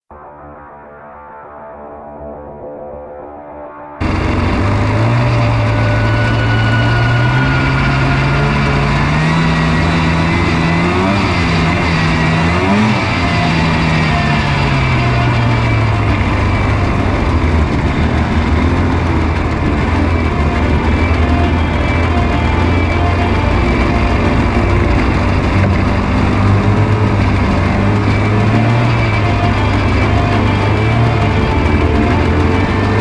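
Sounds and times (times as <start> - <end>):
off-road vehicle engine: 4.0 - 33.0.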